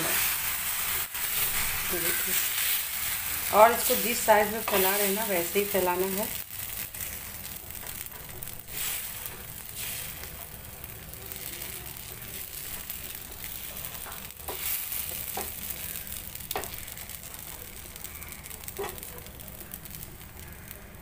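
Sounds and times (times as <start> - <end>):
batter sizzling on a hot pan: 0.0 - 21.0.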